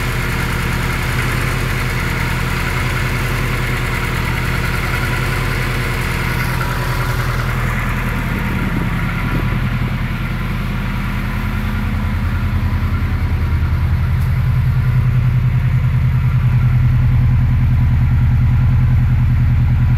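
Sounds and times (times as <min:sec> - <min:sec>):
car engine idling with knock: 0:00.0 - 0:19.9.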